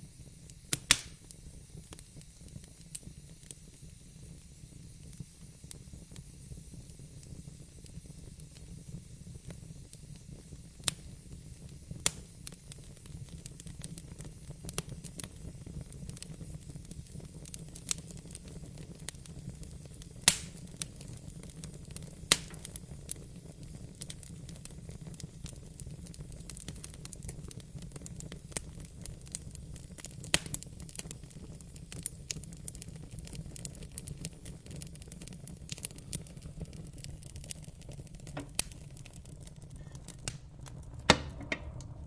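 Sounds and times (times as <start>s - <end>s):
low rumble of flames: 0.0s - 42.0s
wood fire crackling and popping: 0.0s - 42.0s.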